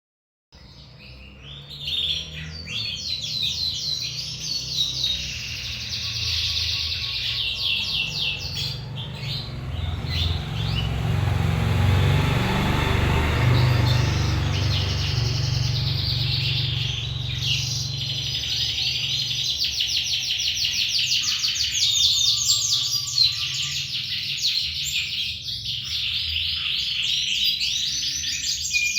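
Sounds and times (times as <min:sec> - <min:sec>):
canary singing rapid trills: 0:00.6 - 0:28.9.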